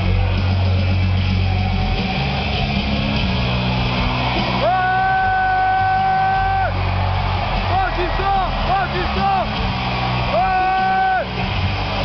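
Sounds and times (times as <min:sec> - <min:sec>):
entrance music over loudspeakers: 0:00.0 - 0:12.0.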